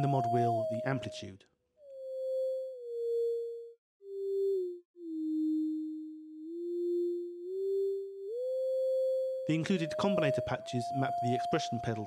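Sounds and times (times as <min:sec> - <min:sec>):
gliding sine-wave tone: 0:00.0 - 0:01.2, 0:01.8 - 0:12.0.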